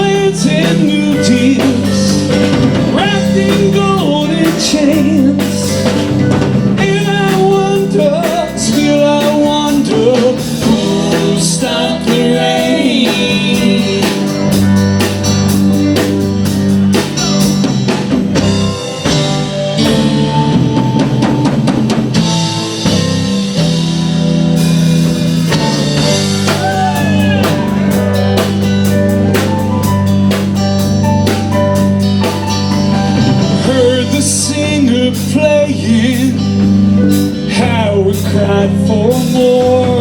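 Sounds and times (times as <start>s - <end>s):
bass guitar: 0.0s - 40.0s
drum kit steady beat: 0.0s - 40.0s
electric guitar bending notes: 0.0s - 40.0s.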